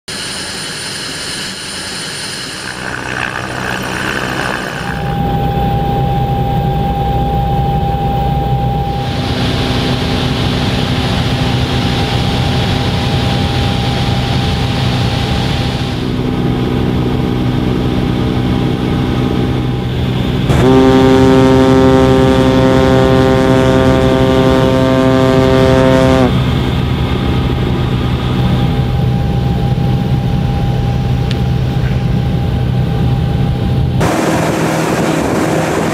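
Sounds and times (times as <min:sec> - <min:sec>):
aircraft engine and rotor drone: 0:00.1 - 0:35.9
pitched hum with overtones: 0:01.3 - 0:35.9.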